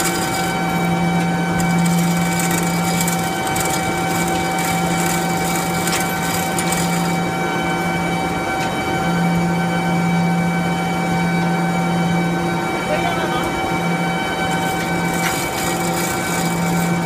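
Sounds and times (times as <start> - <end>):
noisy background: 0.0 - 17.0
steady machine hum: 0.0 - 17.0.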